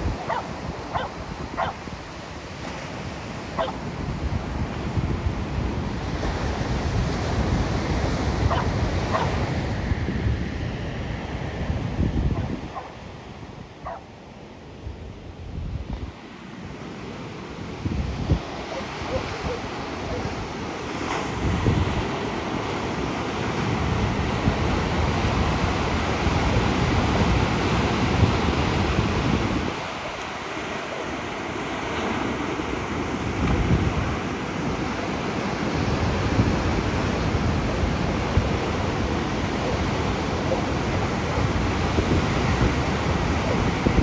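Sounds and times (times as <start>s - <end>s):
wind buffeting microphone: 0.0s - 14.0s, 14.8s - 30.8s, 31.5s - 44.0s
ocean surf breaking: 0.0s - 44.0s.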